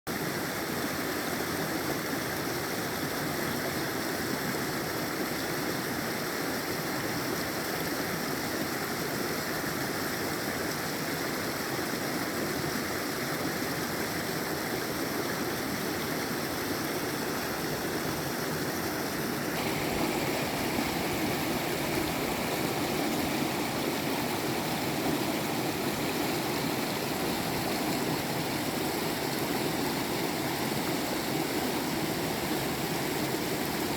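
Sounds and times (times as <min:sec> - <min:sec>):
waterfall rushing and splashing: 0:00.4 - 0:33.9.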